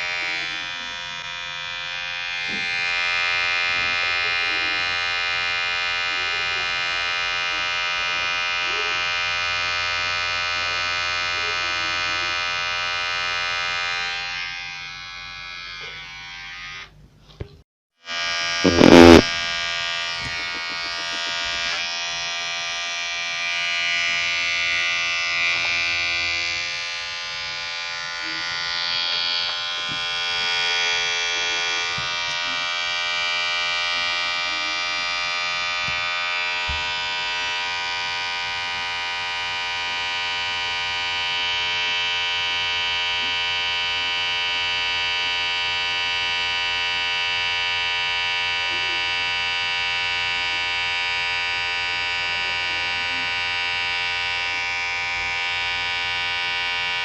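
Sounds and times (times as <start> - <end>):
electric hair clipper buzzing: 0.0 - 17.0, 18.0 - 57.0.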